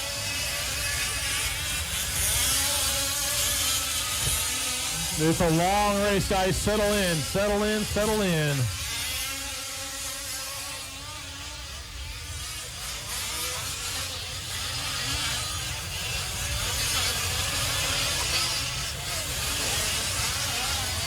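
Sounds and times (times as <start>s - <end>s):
rc truck engines buzzing and revving: 0.0s - 5.6s, 6.6s - 21.0s.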